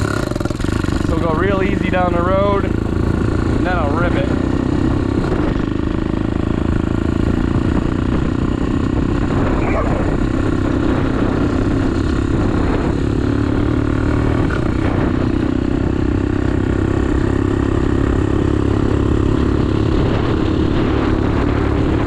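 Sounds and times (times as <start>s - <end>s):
motorbike engine running: 0.0s - 22.0s.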